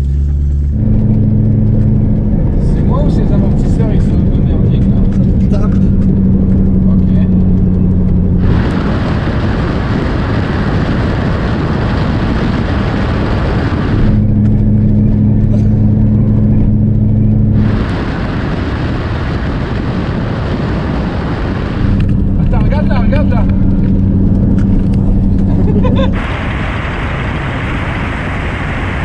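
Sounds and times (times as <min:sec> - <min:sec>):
car engine droning: 0:00.0 - 0:29.0
wind and tyre rush: 0:00.0 - 0:29.0.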